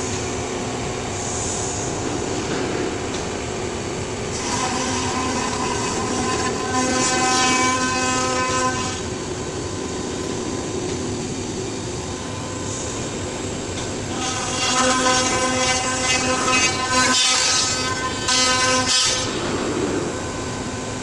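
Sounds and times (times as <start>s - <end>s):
cnc machine whining and cutting: 0.0s - 21.0s.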